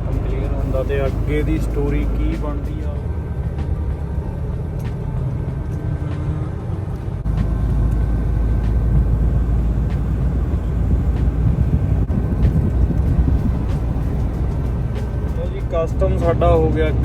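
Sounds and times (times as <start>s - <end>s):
heavy truck engine and road rumble: 0.0s - 17.0s.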